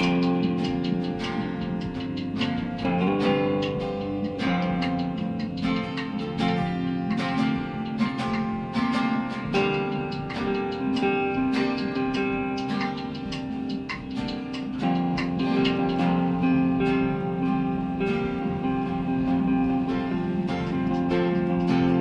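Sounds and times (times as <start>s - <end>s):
guitar plucked and strummed: 0.0s - 22.0s.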